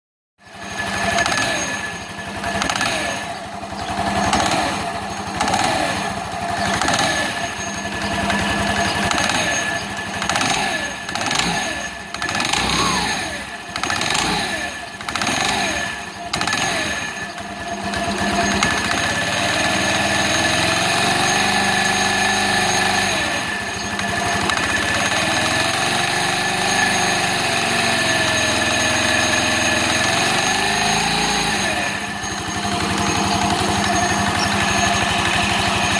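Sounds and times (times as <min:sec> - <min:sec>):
engine running: 0:00.4 - 0:35.9.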